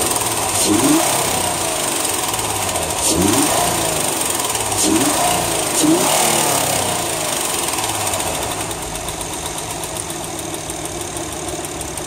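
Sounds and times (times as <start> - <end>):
car engine idling: 0.0 - 12.0
loud engine ticking: 0.0 - 12.0.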